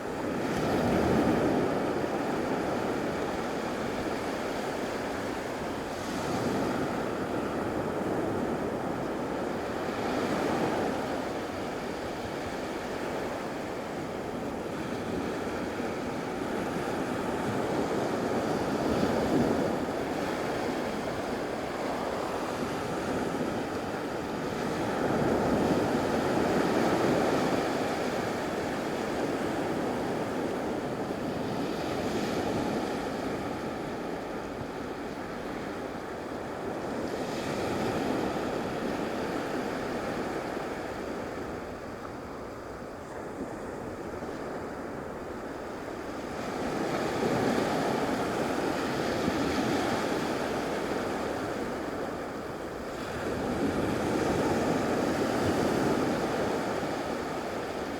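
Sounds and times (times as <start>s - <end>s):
surf washing onto sandy beach: 0.0s - 57.9s
wind buffeting microphone: 0.0s - 57.9s.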